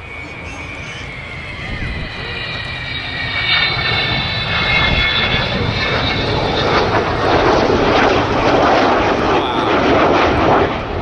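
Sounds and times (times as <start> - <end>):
jet engines roaring and whining: 0.0 - 11.0.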